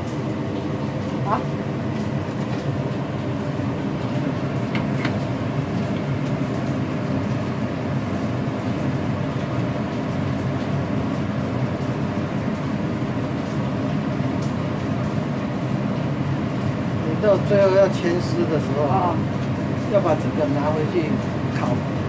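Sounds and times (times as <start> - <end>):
low kitchen rumble: 0.0 - 22.0.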